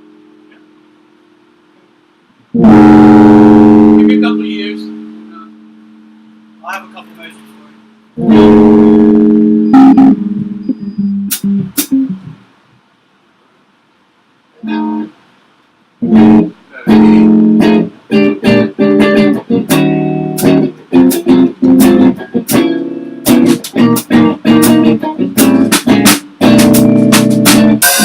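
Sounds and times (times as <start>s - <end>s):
electric guitar strumming chords: 0.0s - 1.1s, 2.5s - 12.4s, 14.6s - 15.2s, 16.0s - 28.0s.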